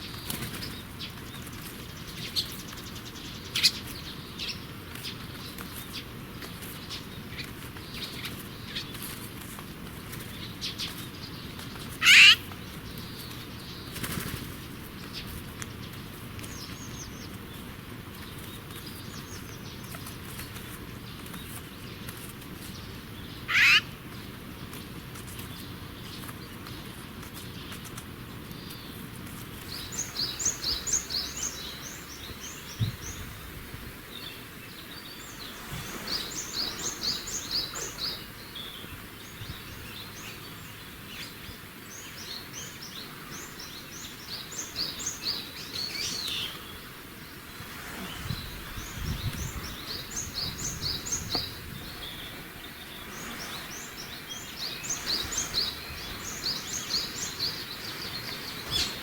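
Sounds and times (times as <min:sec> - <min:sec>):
small songbird singing: 0:00.0 - 0:09.4, 0:10.2 - 0:14.2, 0:21.0 - 0:26.6, 0:29.6 - 0:59.0.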